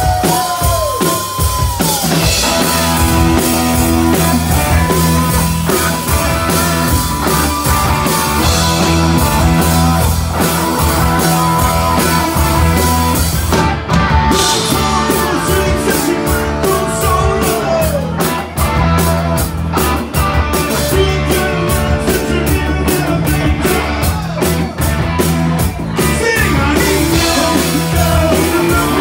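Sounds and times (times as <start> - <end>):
bass guitar: 0.0 - 29.0
drum kit: 0.0 - 29.0
electric guitar: 0.0 - 29.0.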